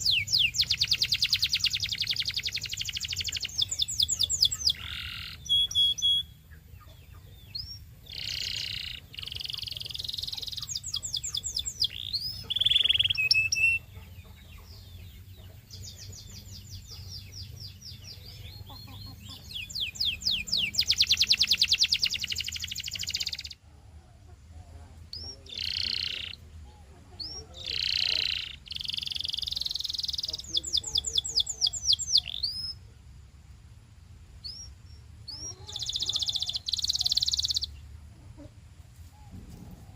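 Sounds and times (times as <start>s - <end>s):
canary singing: 0.0s - 23.6s, 25.0s - 32.9s, 34.4s - 38.5s.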